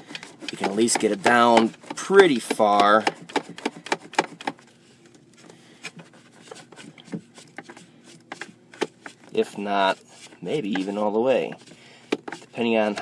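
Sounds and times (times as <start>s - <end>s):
tool clicking and rubbing: 0.0s - 4.7s, 5.9s - 13.0s
faint steady hum: 0.0s - 13.0s.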